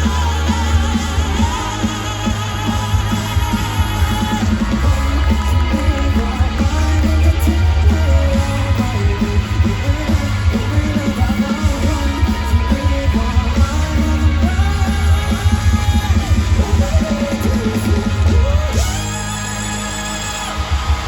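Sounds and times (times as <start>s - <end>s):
electric guitar: 0.0s - 21.0s
live rock band playing: 0.0s - 21.0s
person singing: 0.0s - 21.0s
pounding bass and drums: 0.0s - 21.0s.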